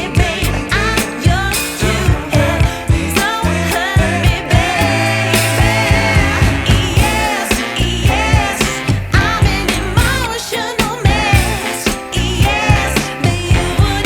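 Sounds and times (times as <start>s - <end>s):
bass: 0.0s - 14.0s
drum beat: 0.0s - 14.0s
woman singing pop song: 0.0s - 14.0s.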